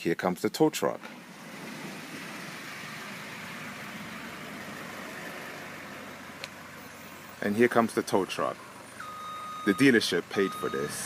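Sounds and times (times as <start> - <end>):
truck engine running: 1.1 - 11.0.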